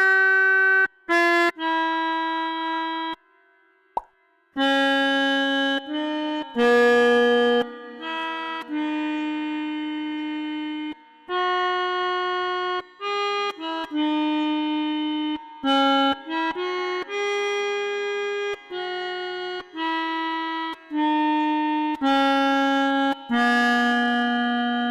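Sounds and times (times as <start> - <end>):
multi-tone bus horn tune: 4.6 - 24.9.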